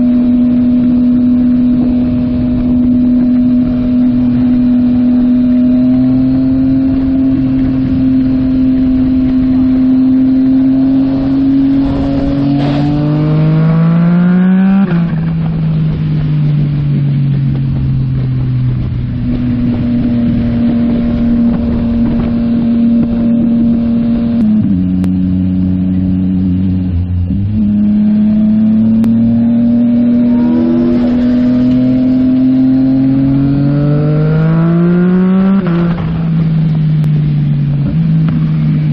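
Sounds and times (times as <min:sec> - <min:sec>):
motorcycle engine: 0:00.0 - 0:38.9
wind noise: 0:00.0 - 0:38.9.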